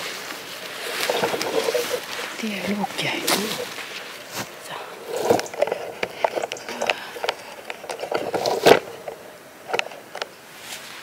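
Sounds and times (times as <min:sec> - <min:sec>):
shrubs rustling and snapping: 0:00.0 - 0:11.0.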